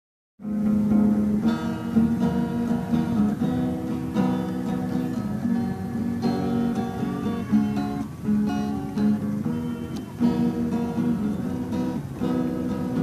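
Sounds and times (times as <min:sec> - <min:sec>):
acoustic guitar strumming chords: 0:00.4 - 0:13.0.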